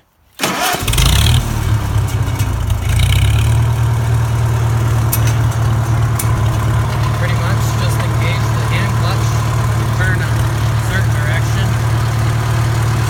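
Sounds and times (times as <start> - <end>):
tractor engine idling: 0.4 - 13.0.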